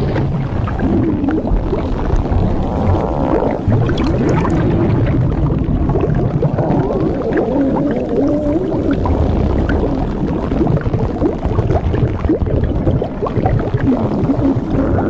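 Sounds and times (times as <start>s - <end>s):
cartoon inflation rumble: 0.0s - 15.0s
gurgles and wavering tones: 0.0s - 15.0s.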